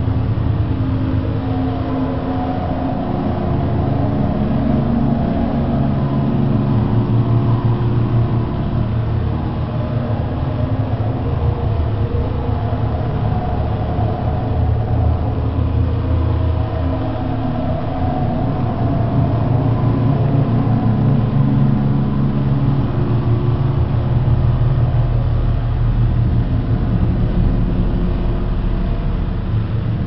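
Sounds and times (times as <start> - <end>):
low droning rumble: 0.0 - 30.0.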